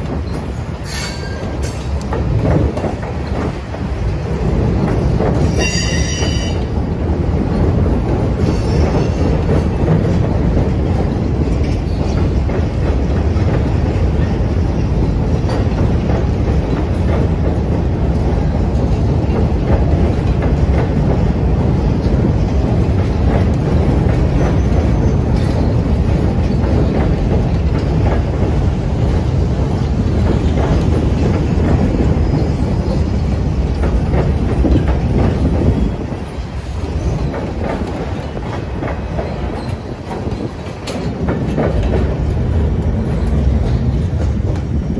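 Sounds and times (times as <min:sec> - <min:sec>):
train wheels rumbling on bridge: 0:00.0 - 0:44.9.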